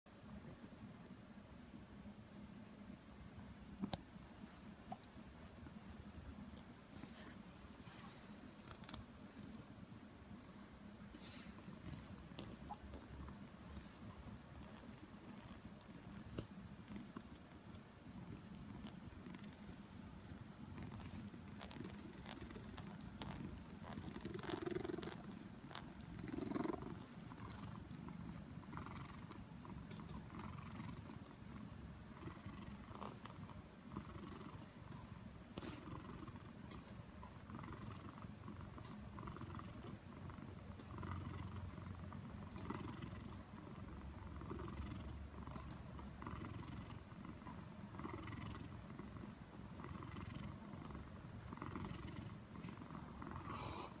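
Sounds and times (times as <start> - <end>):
cat purring: 3.6 - 10.4, 11.0 - 54.0.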